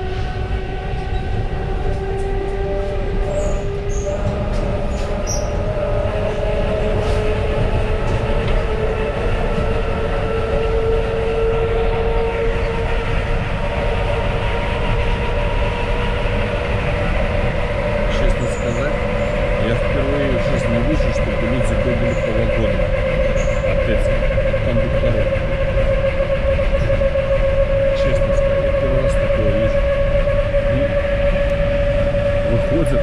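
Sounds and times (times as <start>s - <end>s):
traction motor whine: 0.0s - 33.0s
train wheels rumbling on track: 0.0s - 33.0s.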